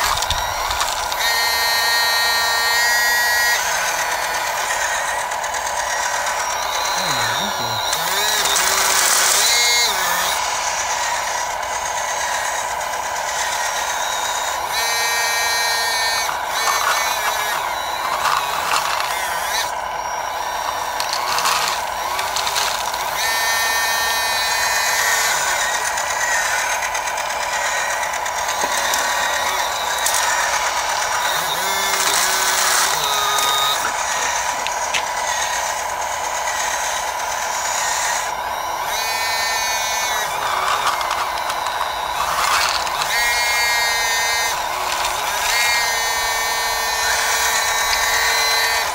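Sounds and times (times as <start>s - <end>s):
hydraulic pump running: 0.0s - 48.9s
hydraulic whine: 0.0s - 48.9s.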